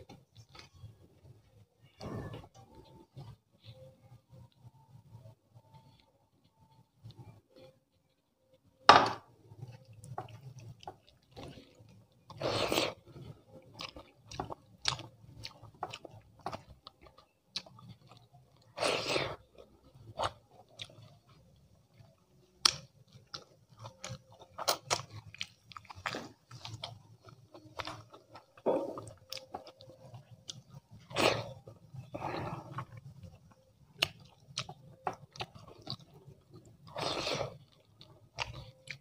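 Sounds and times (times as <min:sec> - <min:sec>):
person chewing food: 0:00.0 - 0:03.9, 0:09.4 - 0:39.0.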